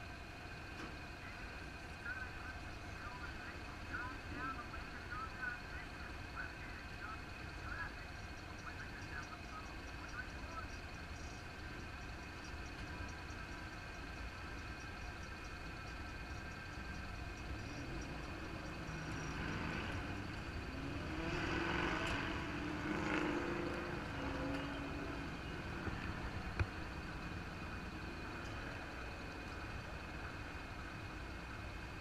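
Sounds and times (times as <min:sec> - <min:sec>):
motorcycle engine idling: 0:00.0 - 0:19.4, 0:24.0 - 0:32.0
passing engine: 0:00.8 - 0:32.0.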